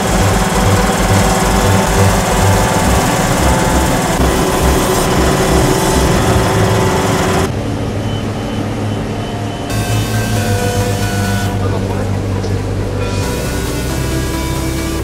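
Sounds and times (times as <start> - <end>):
foam concrete machine running: 0.0 - 7.8, 9.7 - 15.0.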